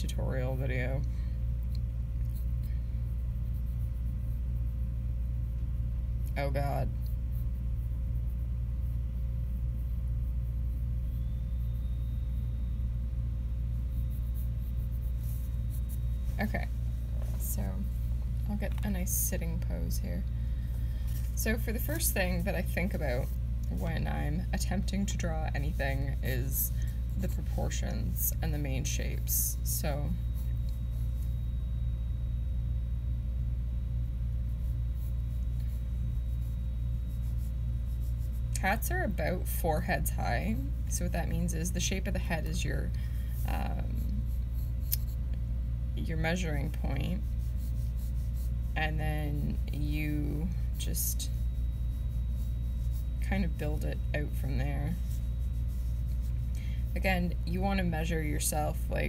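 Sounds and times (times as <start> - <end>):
faint hum: 0.0 - 59.0
low background rumble: 0.0 - 59.0
pencil scratching on paper: 2.3 - 12.5, 13.5 - 17.6, 18.7 - 31.5, 34.1 - 42.7, 43.3 - 45.4, 46.0 - 58.1.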